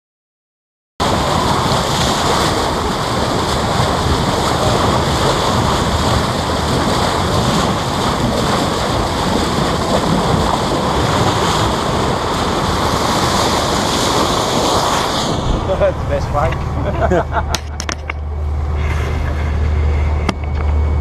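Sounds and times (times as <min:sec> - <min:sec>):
wind buffeting microphone: 0:01.0 - 0:20.3
water rushing along boat hull: 0:01.0 - 0:21.0.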